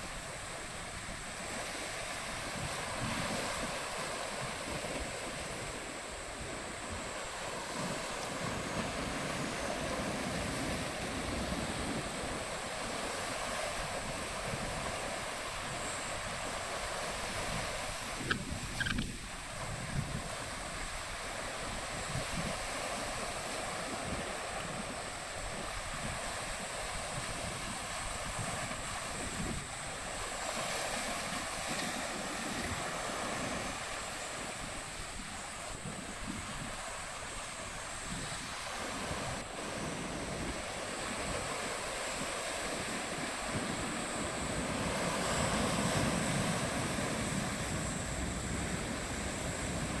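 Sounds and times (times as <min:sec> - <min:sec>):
sea waves rushing: 0:00.0 - 0:50.0
wind gusting across microphone: 0:00.0 - 0:50.0.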